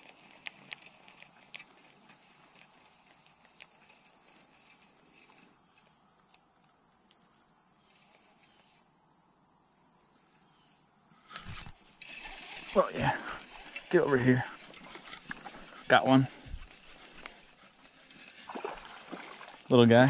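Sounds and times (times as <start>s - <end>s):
faint insect chorus: 0.0s - 20.0s.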